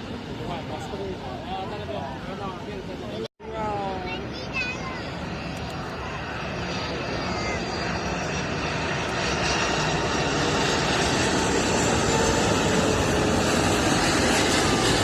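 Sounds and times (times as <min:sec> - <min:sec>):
jet engines rushing with whine: 0:00.0 - 0:15.0.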